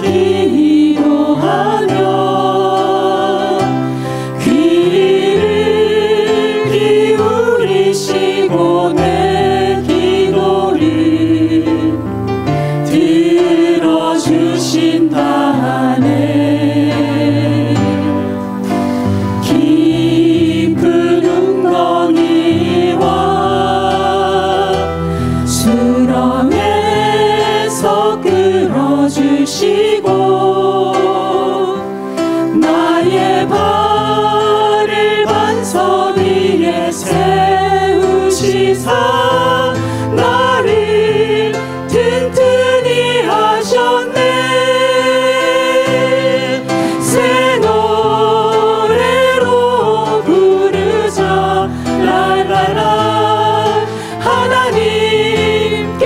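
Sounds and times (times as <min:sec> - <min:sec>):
group singing worship song: 0:00.0 - 0:56.0.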